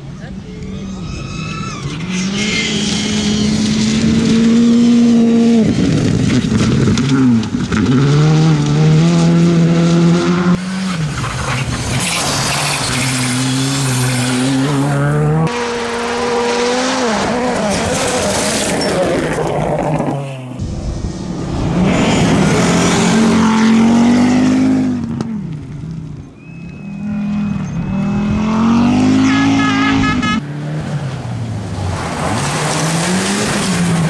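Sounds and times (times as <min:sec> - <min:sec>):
rally car engines at high revs: 0:00.6 - 0:34.0.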